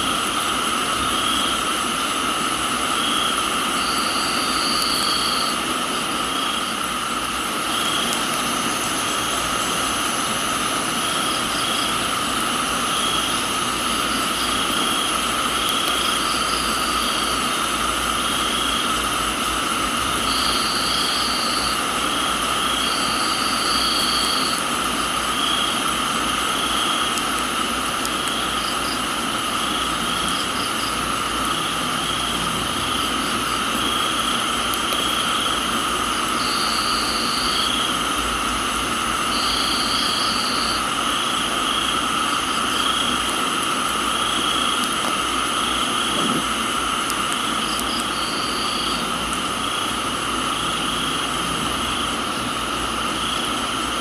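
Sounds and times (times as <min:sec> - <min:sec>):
crickets trilling: 0:00.0 - 0:54.0
high insect trill: 0:00.0 - 0:54.0
rain hiss: 0:00.0 - 0:54.0.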